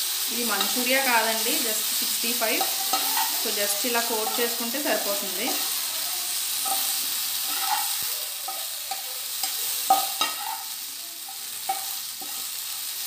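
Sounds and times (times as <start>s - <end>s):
food sizzling in frying pan: 0.0s - 13.0s
steel spoon scraping pan: 2.4s - 13.0s.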